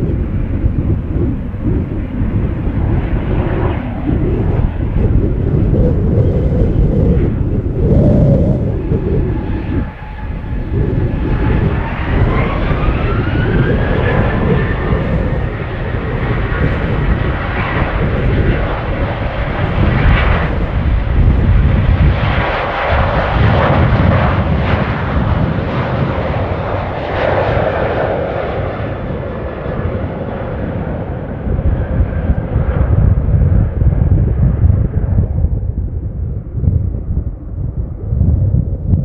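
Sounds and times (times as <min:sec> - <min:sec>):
jet airliner taking off: 0:00.0 - 0:39.0.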